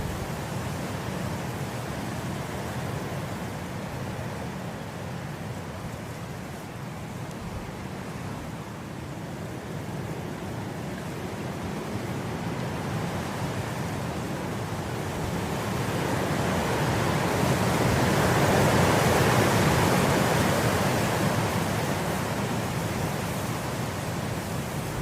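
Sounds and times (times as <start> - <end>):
wind blowing through grass: 0.0 - 25.0.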